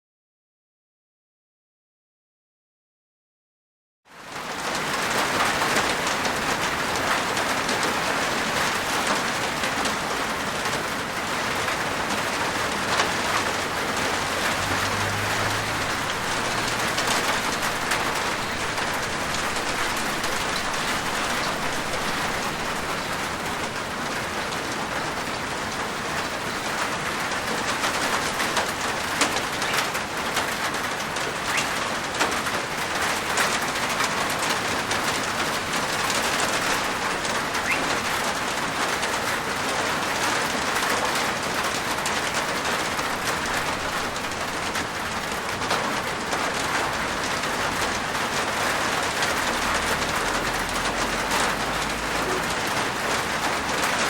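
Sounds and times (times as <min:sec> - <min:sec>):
rain falling on a rooftop: 0:04.1 - 0:54.0.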